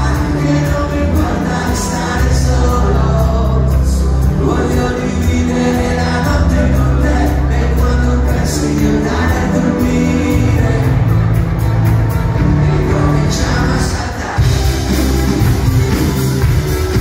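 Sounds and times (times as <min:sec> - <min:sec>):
live pop music: 0:00.0 - 0:17.0.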